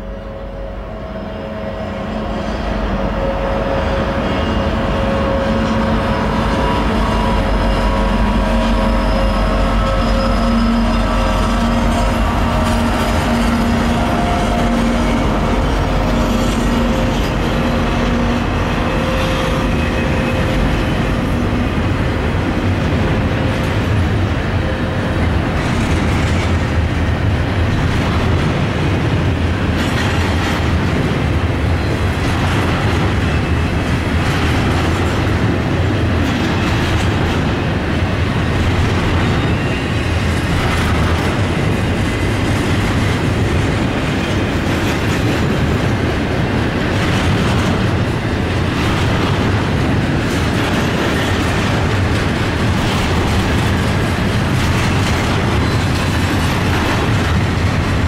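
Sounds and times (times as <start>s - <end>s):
locomotive droning hum: 0.0s - 58.0s
steel wheels clattering on rail: 1.9s - 58.0s.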